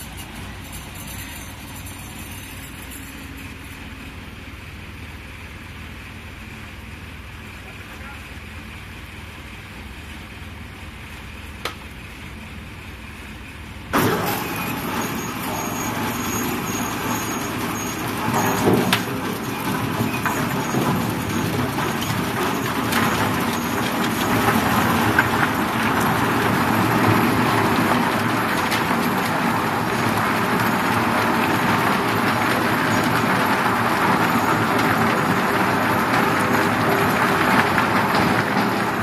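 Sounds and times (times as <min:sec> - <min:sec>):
loader engine running low: 0:00.0 - 0:39.0.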